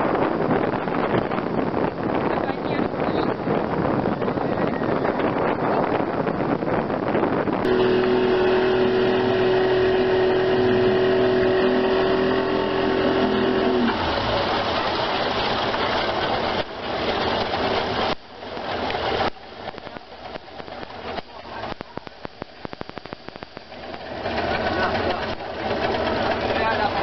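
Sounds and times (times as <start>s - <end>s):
boat engine running: 0.0s - 27.0s
water noise: 0.0s - 27.0s
wind noise on microphone: 0.0s - 27.0s.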